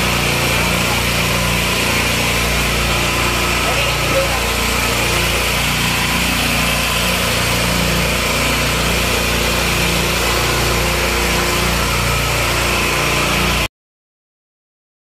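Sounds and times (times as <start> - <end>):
boat engine running: 0.0 - 13.7.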